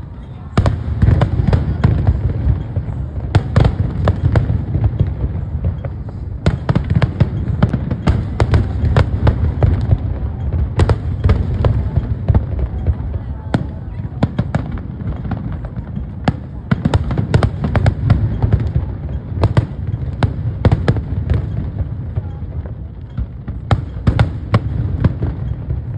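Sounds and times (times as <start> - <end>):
rumble of fireworks booms: 0.0 - 25.9.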